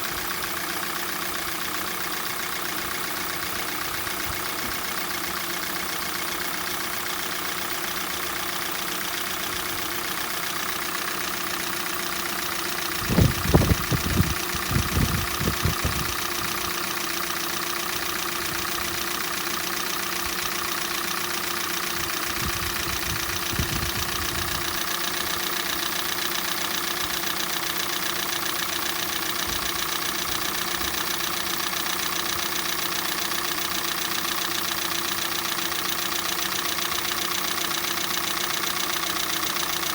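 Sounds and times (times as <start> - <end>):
engine idling with knock: 0.0 - 39.9.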